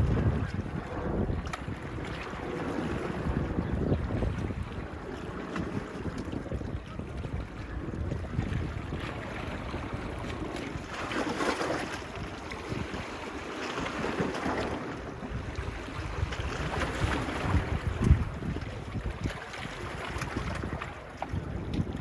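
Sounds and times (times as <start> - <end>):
small waves washing onto beach: 0.0 - 22.0
wind buffeting microphone: 0.0 - 22.0.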